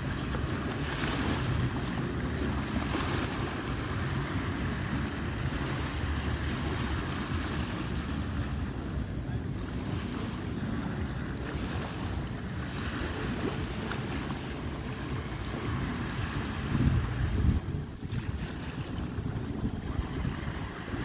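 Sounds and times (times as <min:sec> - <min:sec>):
ocean surf washing on shore: 0:00.0 - 0:21.0
wind buffeting microphone: 0:00.0 - 0:21.0.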